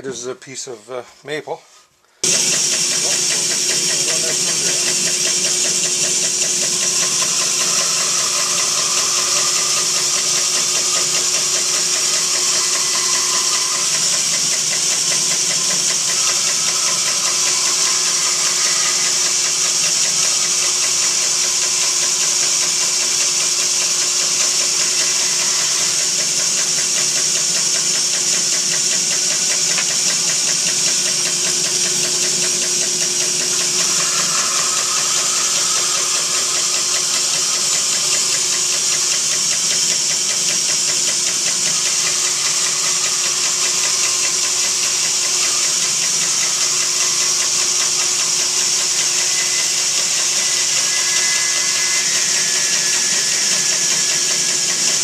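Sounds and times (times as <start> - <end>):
band saw cutting wood: 2.2 - 55.0
fast even ticking: 2.2 - 55.0.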